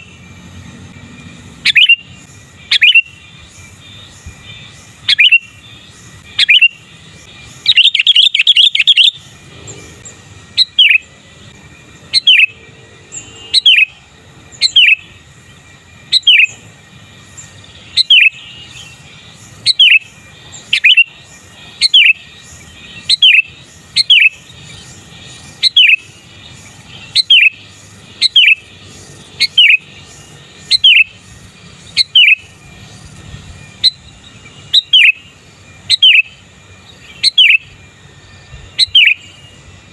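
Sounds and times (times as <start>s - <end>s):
bulbul calling: 1.2s - 39.9s.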